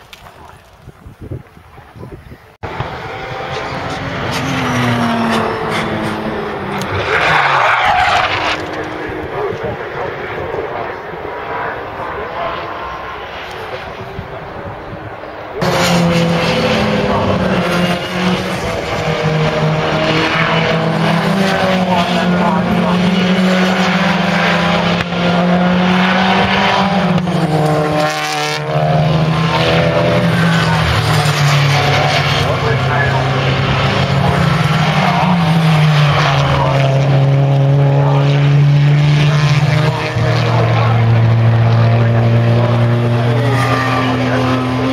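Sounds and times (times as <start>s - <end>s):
racing car engines: 1.7s - 44.9s.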